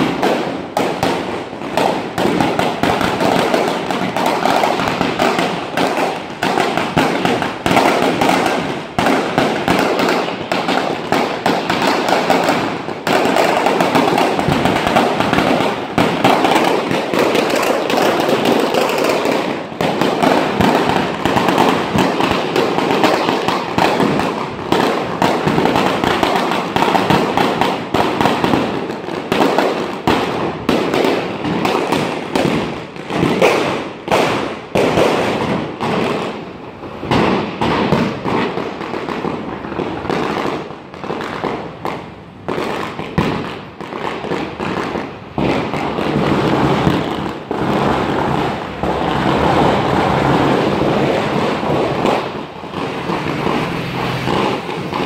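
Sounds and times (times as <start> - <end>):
firecrackers going off: 0.0 - 55.0.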